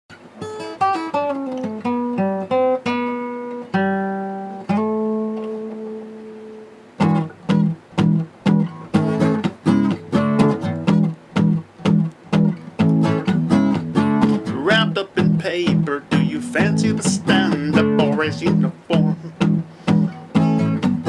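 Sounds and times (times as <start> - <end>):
acoustic guitar: 0.1 - 21.0.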